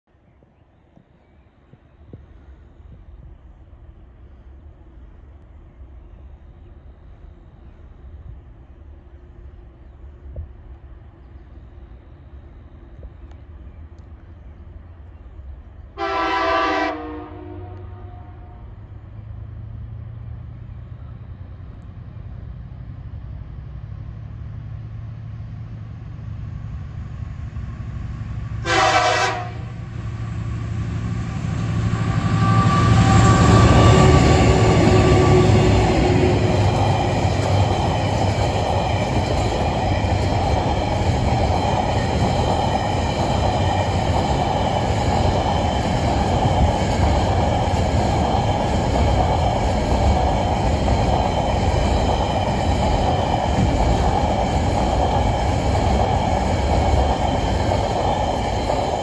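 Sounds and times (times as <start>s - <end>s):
diesel locomotives passing: 0.2s - 59.0s.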